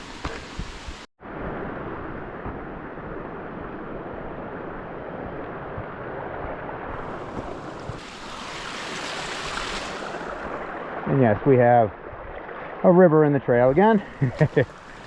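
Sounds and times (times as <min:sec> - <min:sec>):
runoff water rushing: 0:00.0 - 0:15.0.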